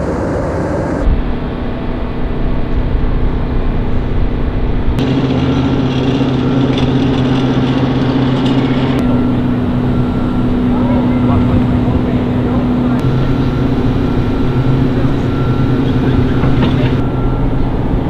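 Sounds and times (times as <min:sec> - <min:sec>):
jet engine drone: 0:00.0 - 0:18.0.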